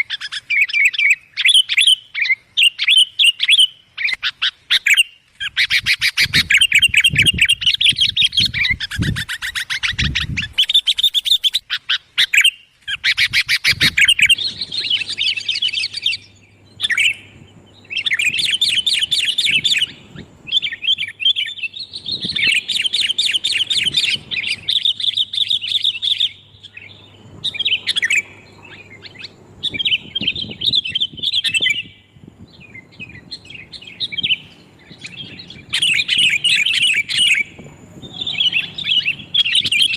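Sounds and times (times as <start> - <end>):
bulbuls chattering calls: 0.0 - 32.1, 32.7 - 39.9.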